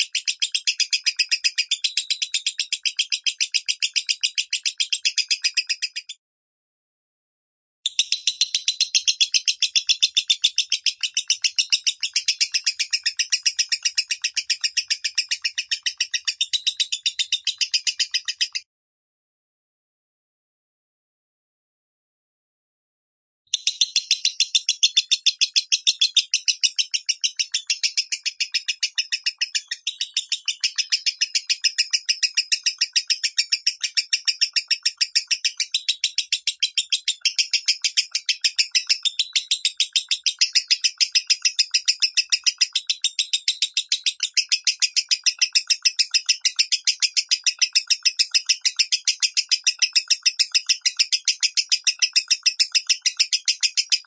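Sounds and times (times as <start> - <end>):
lovebird chirping rapidly: 0.0 - 6.2, 7.9 - 18.6, 23.5 - 54.0.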